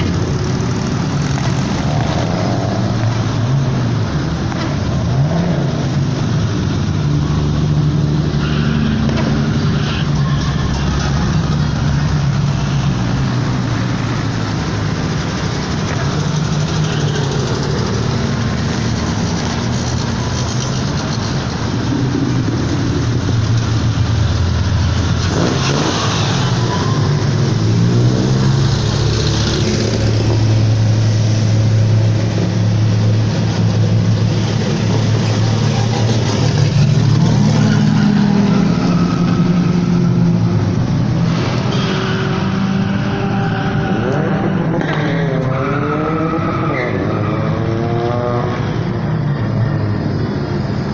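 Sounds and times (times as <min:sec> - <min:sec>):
engines droning and revving: 0:00.0 - 0:50.9.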